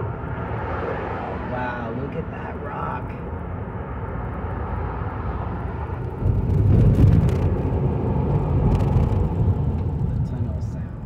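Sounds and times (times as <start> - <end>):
car tyre and engine rumble: 0.0 - 11.0.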